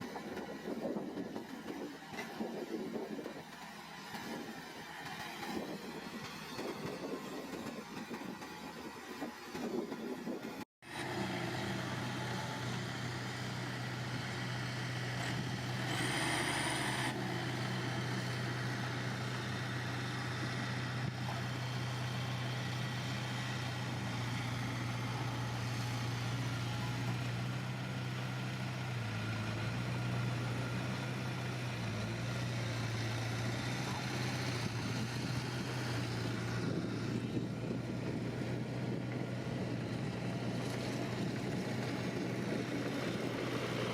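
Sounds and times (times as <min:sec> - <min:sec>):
diesel engine of heavy machinery: 0:00.0 - 0:43.9.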